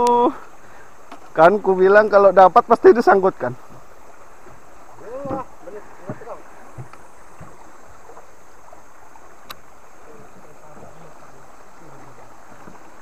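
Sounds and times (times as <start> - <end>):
moving water: 0.0 - 13.0
wind: 0.0 - 13.0.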